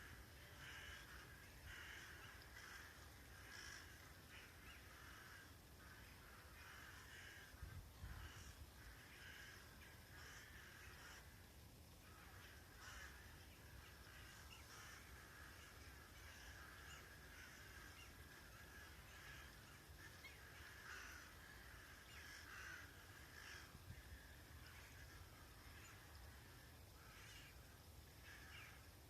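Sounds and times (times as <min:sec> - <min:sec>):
jackdaws calling: 0:00.0 - 0:29.0.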